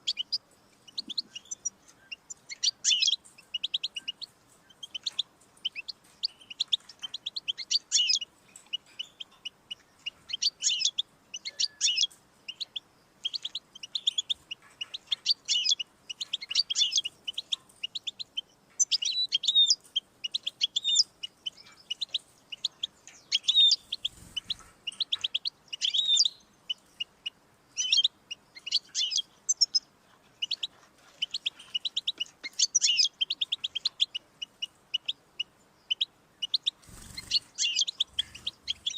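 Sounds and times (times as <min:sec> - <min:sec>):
goldfinch singing: 0:00.0 - 0:38.9.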